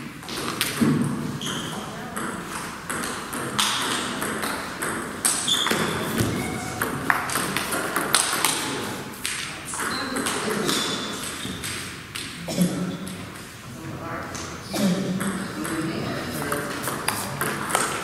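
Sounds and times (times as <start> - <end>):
table tennis ball knocking: 0.2 - 12.4, 15.1 - 18.0.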